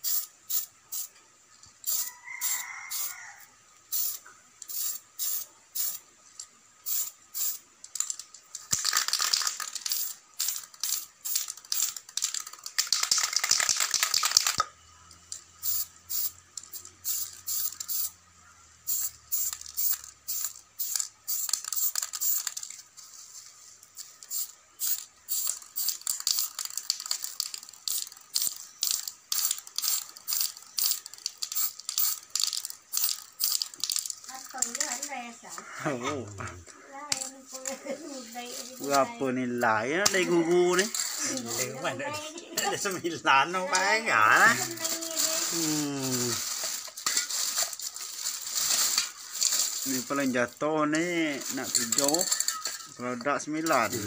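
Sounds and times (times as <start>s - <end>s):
spray can rattling when shaken: 0.0s - 1.1s, 1.8s - 3.1s, 3.9s - 18.2s, 18.8s - 23.0s, 23.8s - 35.3s, 37.1s - 39.1s, 40.0s - 42.0s, 44.3s - 54.0s.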